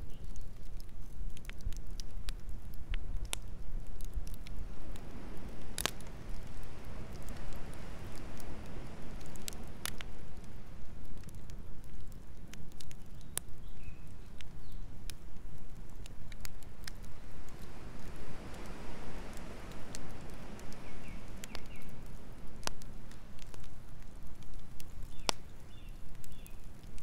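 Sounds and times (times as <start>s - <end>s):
burning logs popping: 0.0s - 27.0s
campfire crackling: 0.0s - 27.0s.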